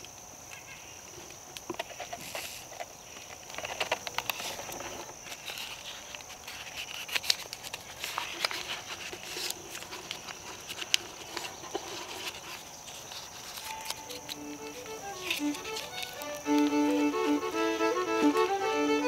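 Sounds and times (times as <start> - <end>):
paper crinkling and rustling: 1.6 - 17.5.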